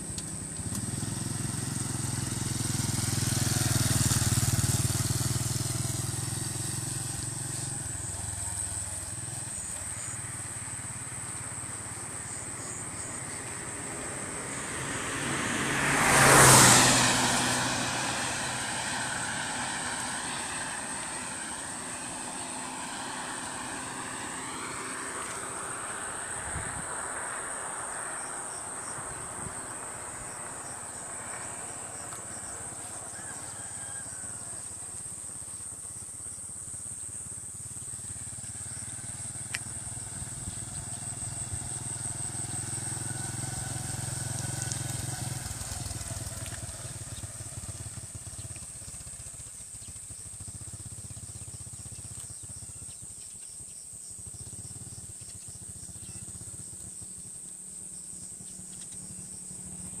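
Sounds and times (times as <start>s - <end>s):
crickets trilling: 0.0s - 60.0s
motorbike engine passing: 0.0s - 60.0s.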